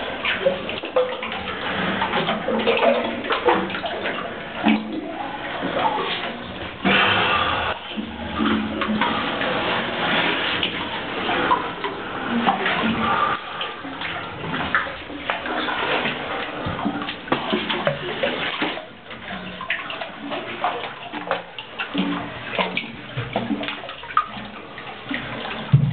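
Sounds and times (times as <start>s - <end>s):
water splashing and sloshing: 0.0s - 25.9s.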